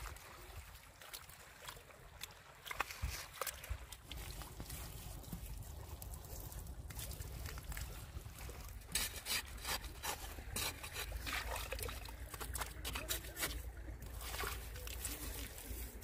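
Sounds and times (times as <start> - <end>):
hands squelching wet mud: 0.4 - 16.0.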